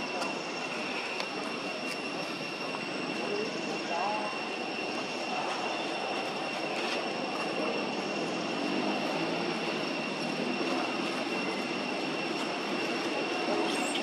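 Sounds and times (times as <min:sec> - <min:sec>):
high-pitched whine: 0:00.0 - 0:14.0
outdoor background noise: 0:00.0 - 0:14.0.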